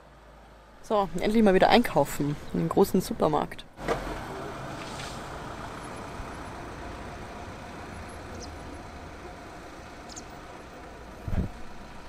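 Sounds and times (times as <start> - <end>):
background rumble and hum: 0.0 - 12.0.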